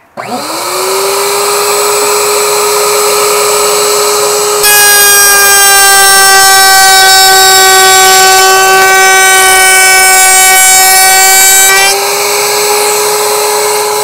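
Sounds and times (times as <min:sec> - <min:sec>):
electric router whining: 0:00.0 - 0:14.0.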